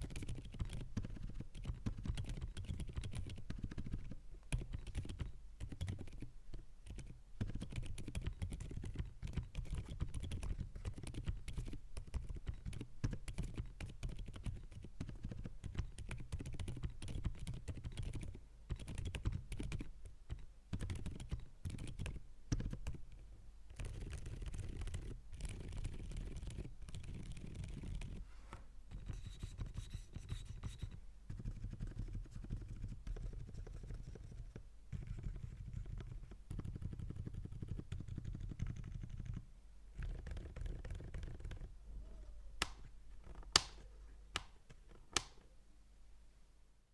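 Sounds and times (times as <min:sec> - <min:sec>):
soft mechanical keyboard typing: 0:00.0 - 0:28.2, 0:28.9 - 0:41.7.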